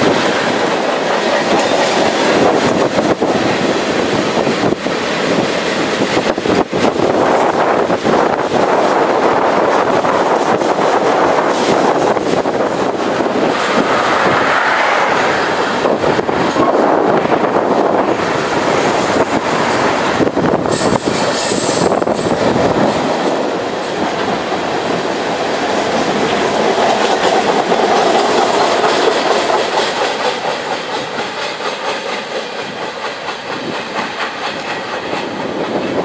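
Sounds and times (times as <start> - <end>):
steel wheels rolling on rail: 0.0 - 36.0.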